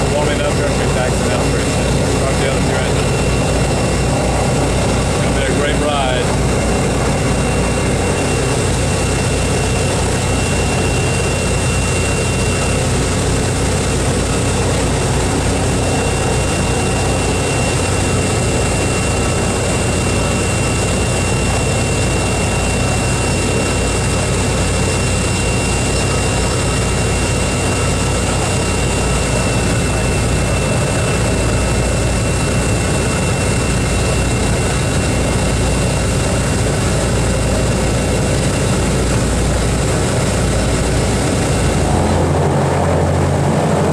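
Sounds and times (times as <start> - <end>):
aircraft engines droning: 0.0 - 43.9.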